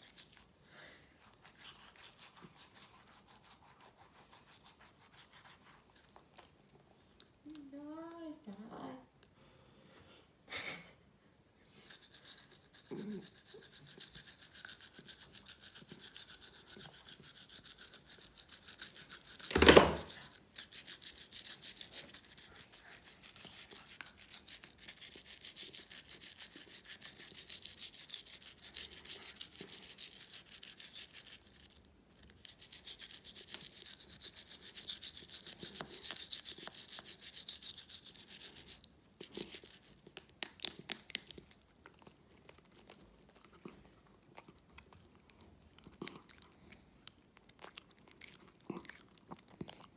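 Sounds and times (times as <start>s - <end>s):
toothbrush scrubbing teeth: 0.0s - 6.8s, 11.6s - 49.9s.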